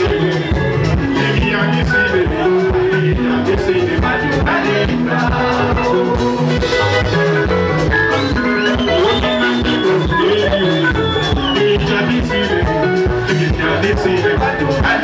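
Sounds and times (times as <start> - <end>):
man singing into microphone: 0.0 - 7.2, 8.8 - 15.0
bass guitar: 0.0 - 15.0
drum kit beat: 0.0 - 15.0
electric guitars: 0.0 - 15.0.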